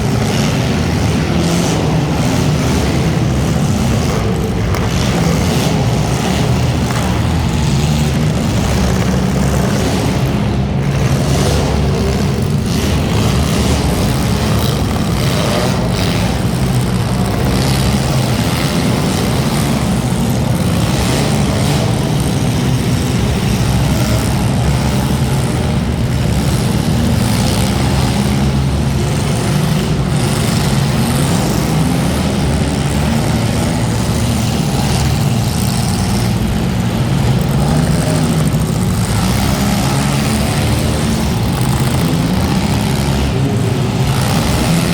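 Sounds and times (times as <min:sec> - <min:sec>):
race car engines running: 0:00.0 - 0:44.9.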